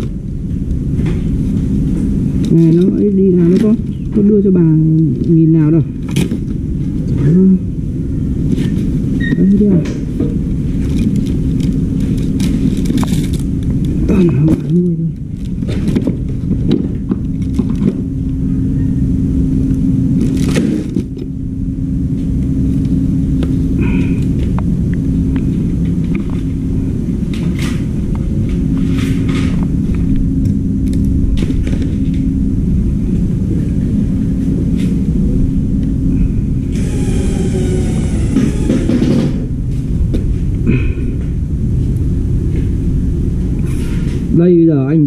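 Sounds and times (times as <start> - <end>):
constant hum: 0.0 - 45.0
steady low rumble: 0.0 - 45.0.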